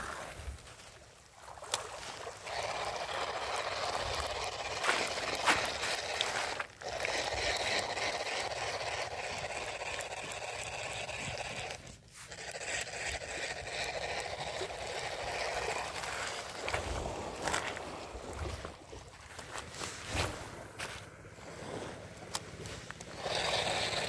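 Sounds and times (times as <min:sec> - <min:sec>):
water splashing and trickling: 0:00.3 - 0:20.0.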